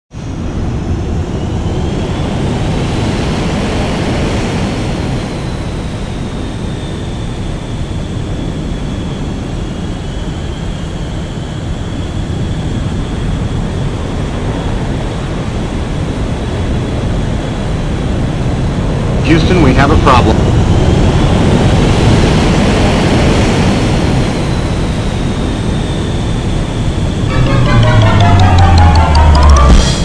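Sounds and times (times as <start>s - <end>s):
jet engine rumble and whine: 0.1s - 30.0s.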